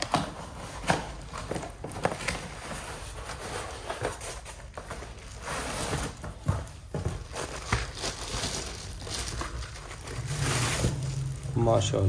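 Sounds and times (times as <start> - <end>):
plastic wrap rustling: 0.0 - 11.8.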